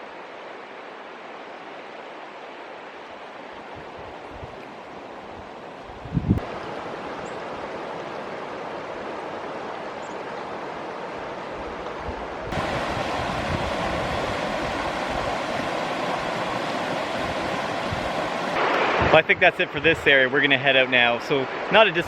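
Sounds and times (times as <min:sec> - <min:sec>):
river water rushing over rapids: 0:00.0 - 0:22.0.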